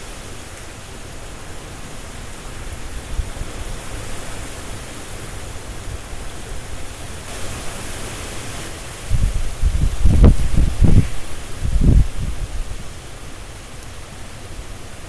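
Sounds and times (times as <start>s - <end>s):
strong wind through tree leaves: 0.0s - 15.0s.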